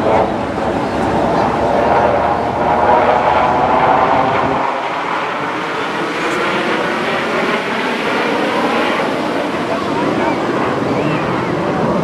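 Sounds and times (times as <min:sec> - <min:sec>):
jets flying overhead: 0:00.0 - 0:12.0.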